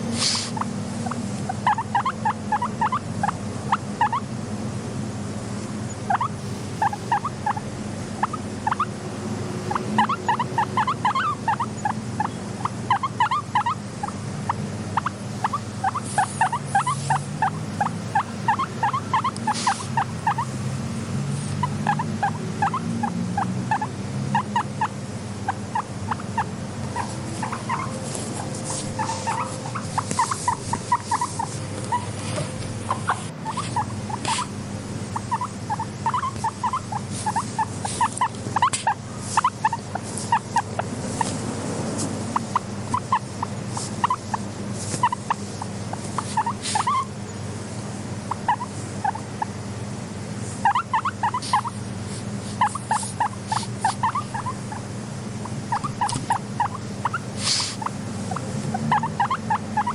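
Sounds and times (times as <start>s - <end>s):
guinea pigs squeaking: 0.0s - 4.3s, 5.9s - 9.0s, 9.6s - 47.2s, 48.1s - 49.7s, 50.4s - 59.9s
low steady rumble: 0.0s - 59.9s.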